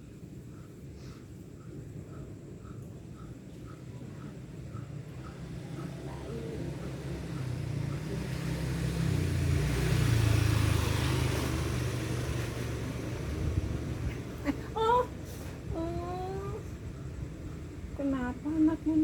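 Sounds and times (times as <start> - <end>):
motor vehicle passing by: 3.6 - 19.0.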